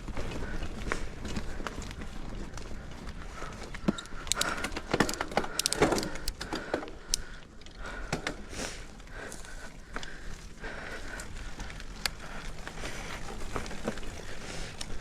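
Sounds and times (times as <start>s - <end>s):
mountain bike rattling on dirt: 0.0s - 15.0s.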